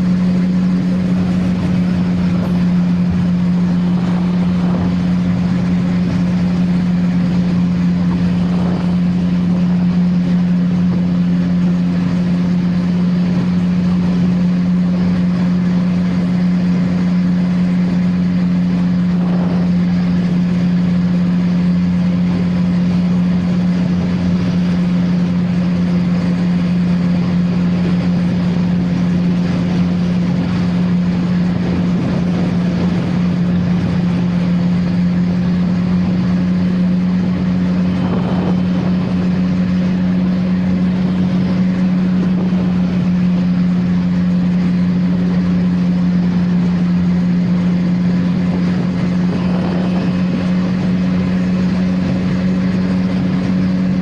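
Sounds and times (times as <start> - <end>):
motorcycle engine cruising steadily: 0.0 - 54.0.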